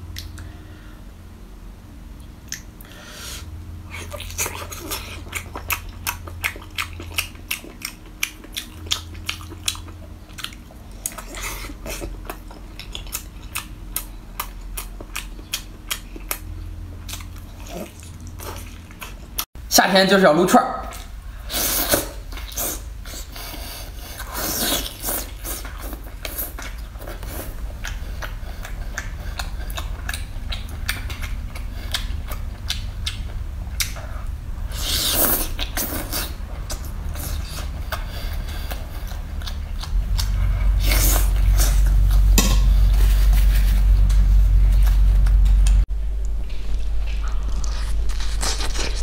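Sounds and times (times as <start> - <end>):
steady low hum: 0.0 - 49.0
chewing and biting food: 3.9 - 19.5, 22.2 - 45.8, 46.5 - 49.0.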